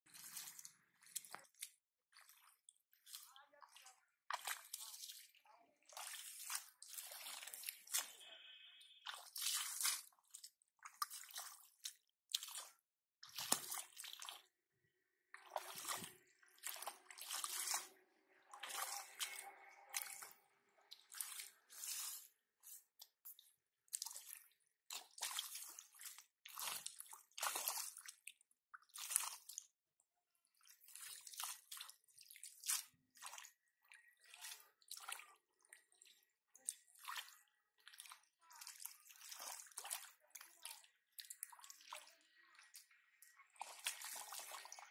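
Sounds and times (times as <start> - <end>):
hands squelching through muddy water: 0.0 - 14.6, 15.3 - 29.8, 30.5 - 44.9.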